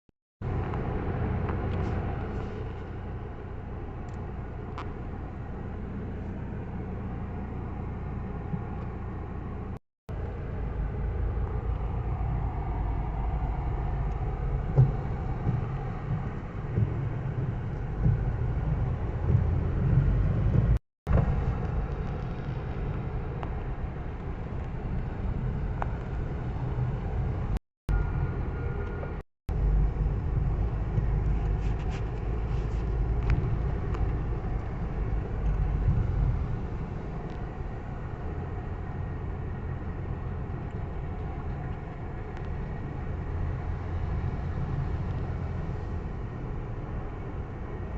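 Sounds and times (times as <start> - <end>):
low rumble: 0.4 - 47.9.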